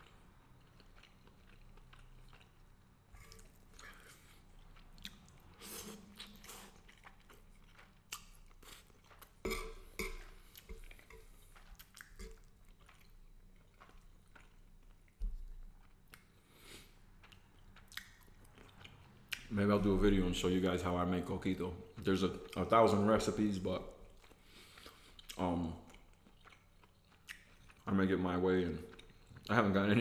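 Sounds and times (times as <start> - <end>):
person chewing with wet smacks: 0.0 - 19.6, 21.3 - 27.9, 28.7 - 29.7.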